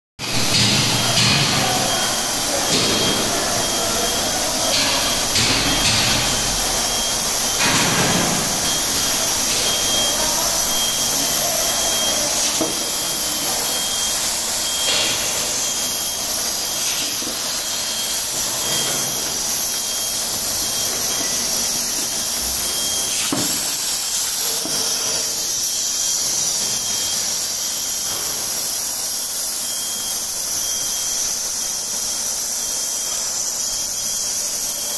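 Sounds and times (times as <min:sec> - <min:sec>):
machine hissing: 0:00.2 - 0:34.9.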